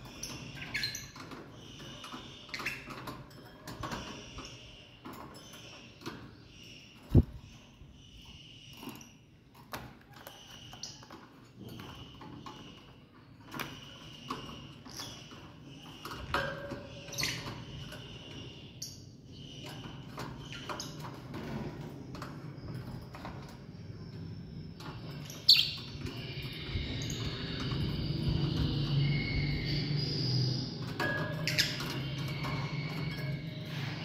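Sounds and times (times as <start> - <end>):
bird chirping: 0.0 - 34.0.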